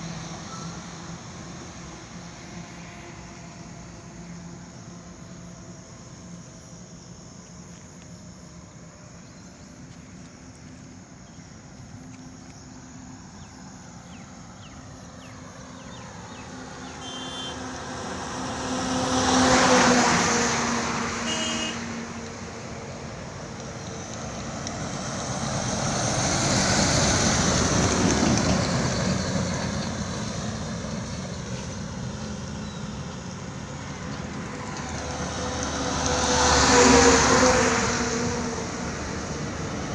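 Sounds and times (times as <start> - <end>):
steady traffic background: 0.0 - 39.9
vehicles driving past: 0.0 - 39.9.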